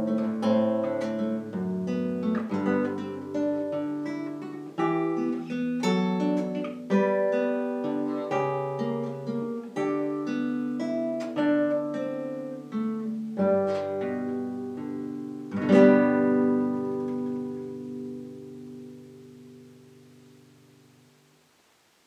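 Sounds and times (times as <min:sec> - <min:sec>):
nylon-string guitar playing: 0:00.0 - 0:21.6.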